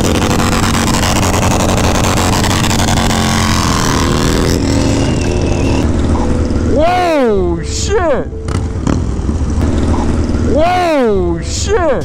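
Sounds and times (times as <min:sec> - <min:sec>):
motorcycle engine running: 0:00.0 - 0:07.7, 0:08.3 - 0:12.0.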